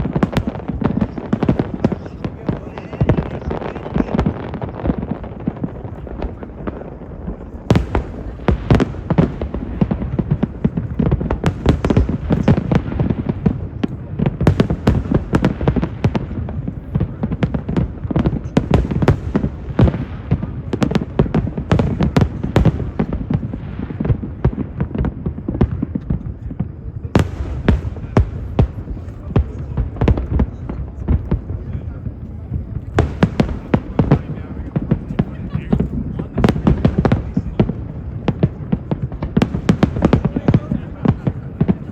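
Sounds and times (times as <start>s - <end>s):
continuous rumble: 0.0s - 41.9s
firework bursts and booms: 0.0s - 41.9s
rapid-fire firework reports: 0.0s - 41.9s.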